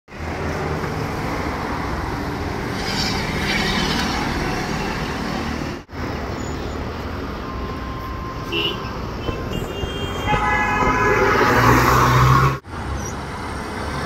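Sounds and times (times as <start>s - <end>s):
traffic noise: 0.1s - 14.0s.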